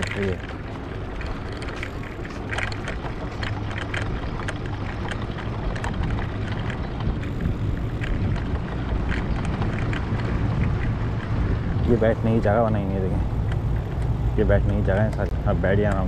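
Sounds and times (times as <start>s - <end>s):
bicycle rolling over paving stones: 0.0s - 16.0s
bike rattles and clicks: 0.0s - 16.0s
wind rumbling on microphone: 0.0s - 16.0s.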